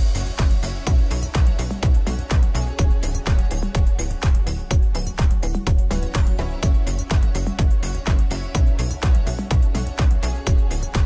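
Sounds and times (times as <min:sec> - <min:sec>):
deep kick drum: 0:00.0 - 0:11.0
electronic dance music: 0:00.0 - 0:11.0.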